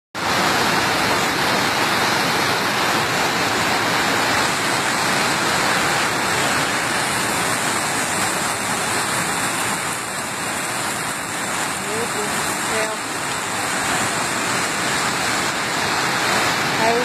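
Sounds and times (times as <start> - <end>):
heavy rain falling: 0.2 - 17.0.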